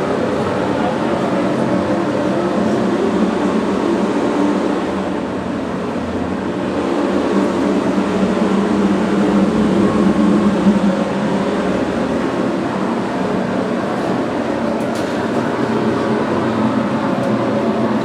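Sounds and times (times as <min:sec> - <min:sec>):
loud rumbling drone: 0:00.0 - 0:18.0.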